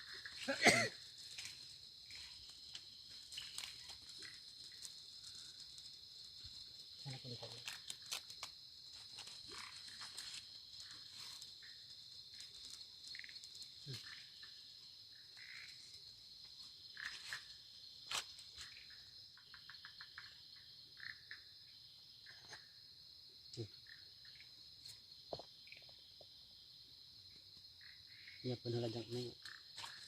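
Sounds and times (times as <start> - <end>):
crickets and insects chirring: 0.0 - 30.0.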